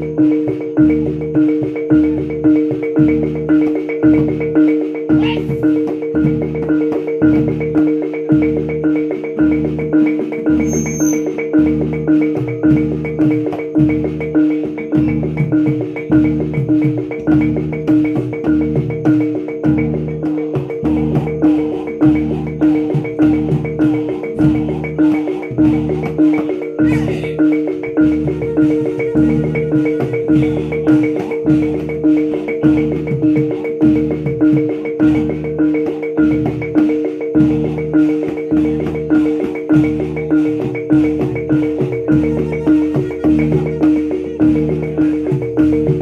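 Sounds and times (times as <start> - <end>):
ringing gongs and metallophones: 0.0 - 46.0.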